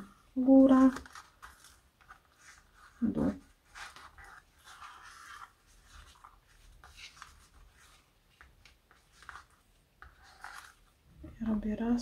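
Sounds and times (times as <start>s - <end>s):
string rustling and scraping: 0.0s - 11.4s.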